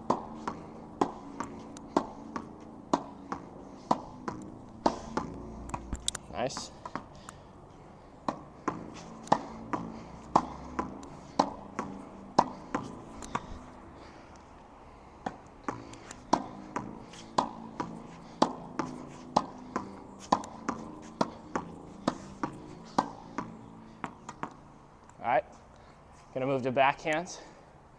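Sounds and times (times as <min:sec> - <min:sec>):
tennis ball hitting racket and wall: 0:00.0 - 0:14.5, 0:15.2 - 0:24.7.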